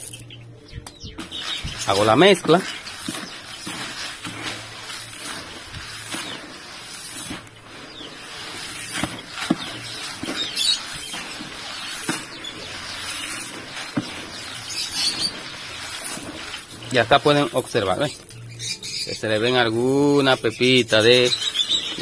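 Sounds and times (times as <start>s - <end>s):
bird seed stirred by hand: 1.1s - 22.0s.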